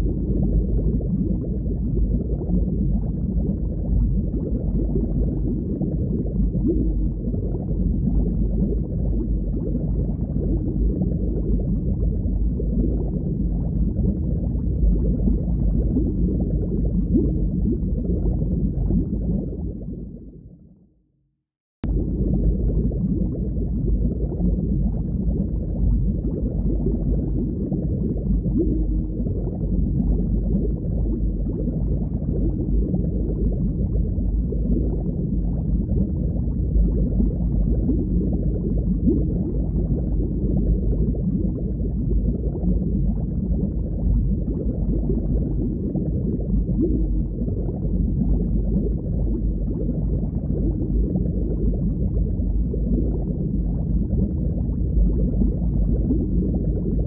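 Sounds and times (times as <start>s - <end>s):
muffled underwater water noise: 0.0s - 20.9s, 21.8s - 57.0s.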